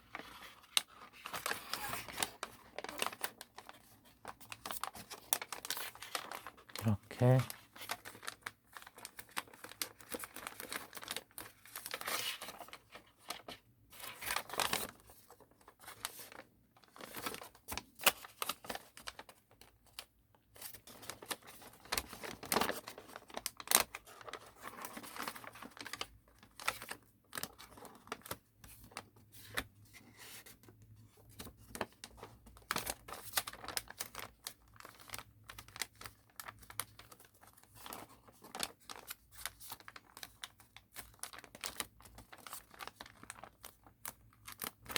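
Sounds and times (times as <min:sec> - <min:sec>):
paper crinkling and rustling: 0:00.0 - 0:44.9.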